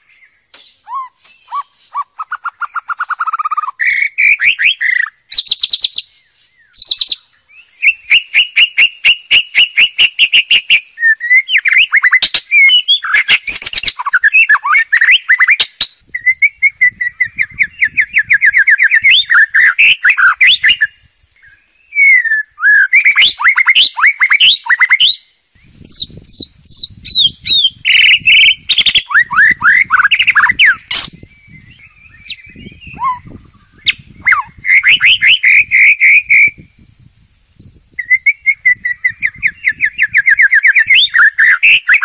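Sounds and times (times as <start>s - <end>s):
bird singing varied song: 0.0s - 42.0s.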